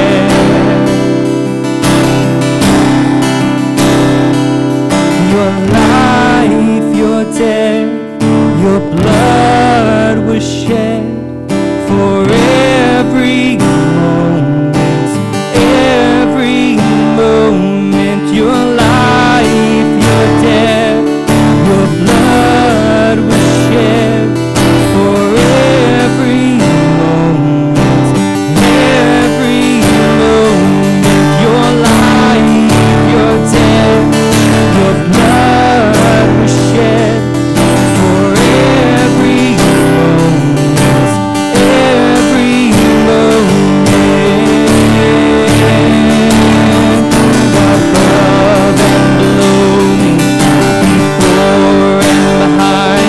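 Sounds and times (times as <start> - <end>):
acoustic guitar strummed: 0.0 - 53.0
man singing: 0.0 - 53.0.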